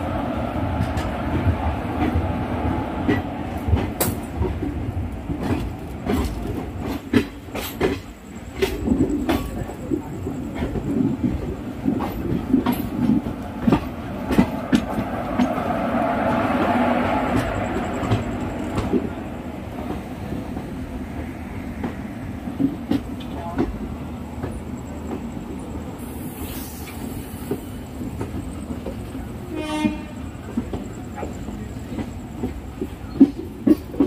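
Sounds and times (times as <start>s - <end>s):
train rumbling on track: 0.0s - 34.0s
wheels clicking over rail joints: 0.7s - 20.8s, 26.0s - 34.0s.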